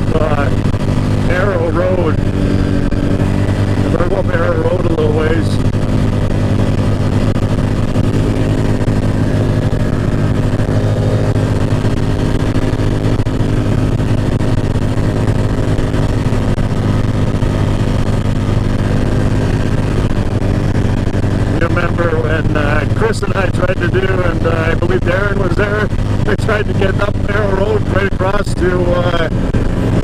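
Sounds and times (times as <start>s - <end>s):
off-road vehicle engine running: 0.0s - 30.0s.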